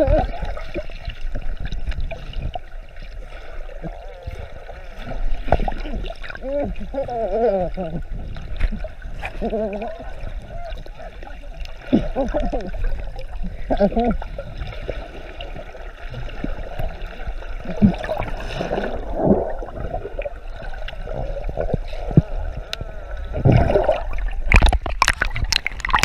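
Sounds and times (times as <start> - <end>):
muffled underwater gurgling: 0.0 - 26.0.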